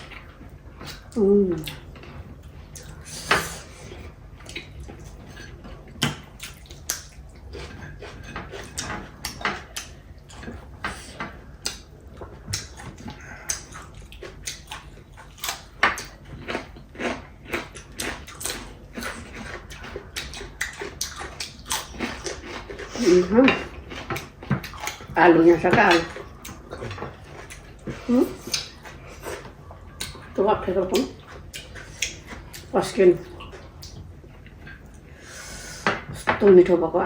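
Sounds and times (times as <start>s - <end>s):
people chewing: 0.0s - 36.2s.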